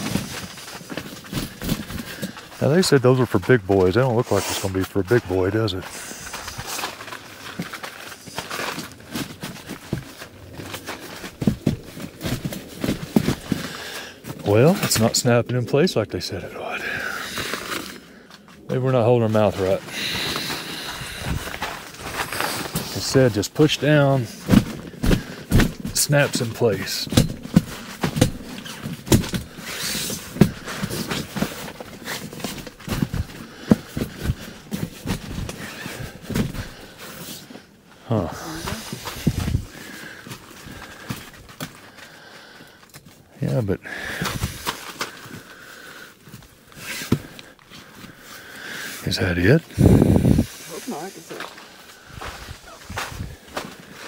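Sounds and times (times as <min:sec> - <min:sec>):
fabric rustling and crinkling: 0:00.0 - 0:15.2, 0:17.3 - 0:42.2, 0:44.2 - 0:54.0.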